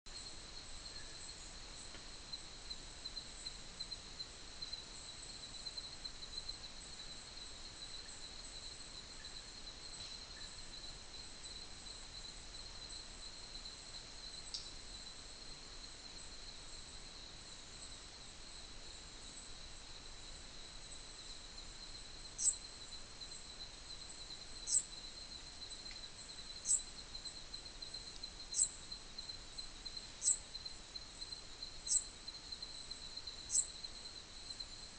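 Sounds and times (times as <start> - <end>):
crickets chirring: 0.1 - 34.9.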